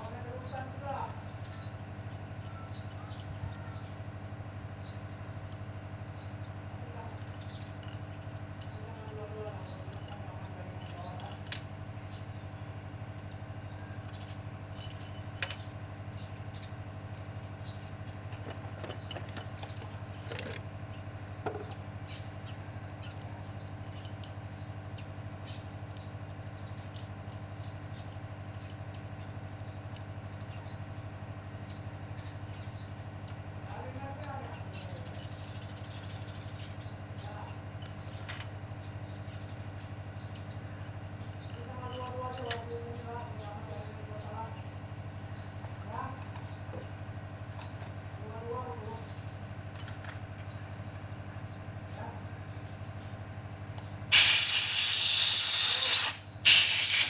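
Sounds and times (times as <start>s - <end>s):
small birds chirping: 0.0s - 49.7s, 50.3s - 54.1s
steady low hum: 0.0s - 57.0s.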